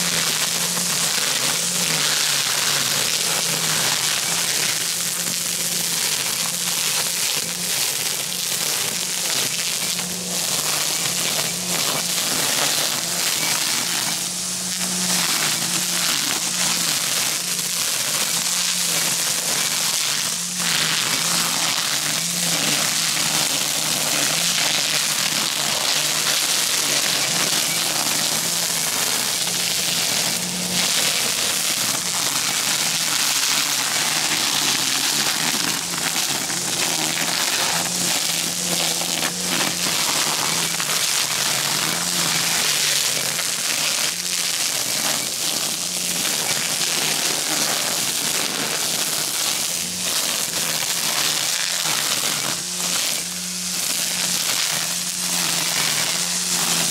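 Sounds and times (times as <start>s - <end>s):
string trimmer cutting grass: 0.0s - 56.9s.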